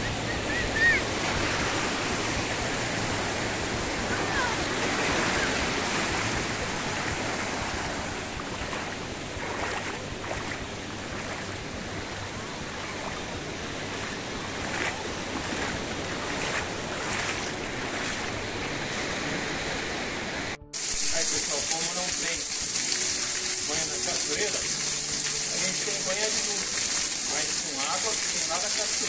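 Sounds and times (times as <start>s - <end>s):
small waves washing onto beach: 0.0s - 29.0s.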